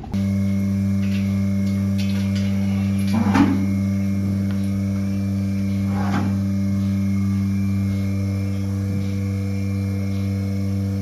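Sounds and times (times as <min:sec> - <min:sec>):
milking machine motor hum: 0:00.0 - 0:11.0.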